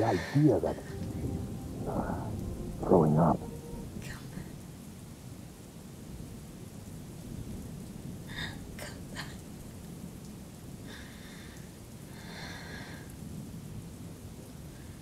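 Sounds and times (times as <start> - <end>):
rain hiss: 0.0 - 15.0
thunder rumble: 0.0 - 15.0.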